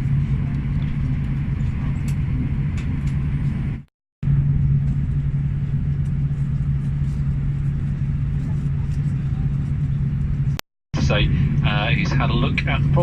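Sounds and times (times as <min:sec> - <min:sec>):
cabin air conditioning drone: 0:00.0 - 0:13.0.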